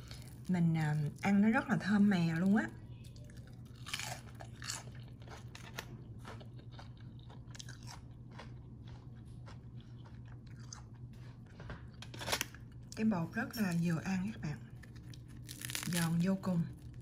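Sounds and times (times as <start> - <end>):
crunching and chewing fried food: 0.0 - 13.1, 14.4 - 17.0
low steady hum: 0.0 - 17.0.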